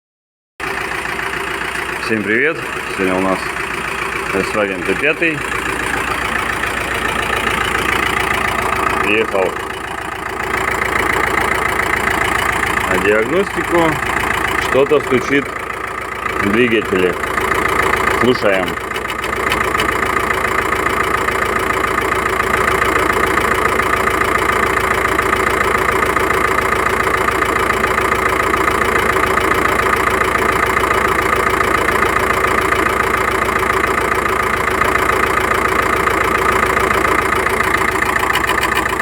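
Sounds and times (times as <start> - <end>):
engine idling: 0.6 - 39.0
engine tapping knock: 0.6 - 39.0.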